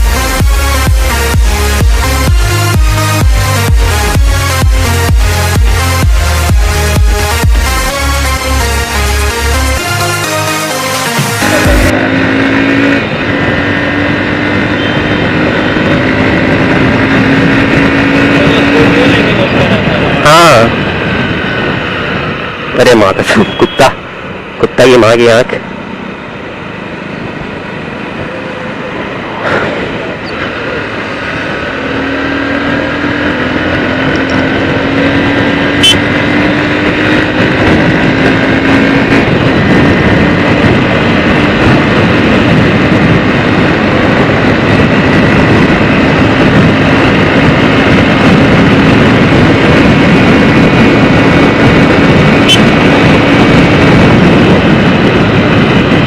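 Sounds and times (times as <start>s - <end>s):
motorcycle engine: 0.0s - 22.8s, 25.5s - 56.0s
wind rushing over microphone: 0.0s - 56.0s.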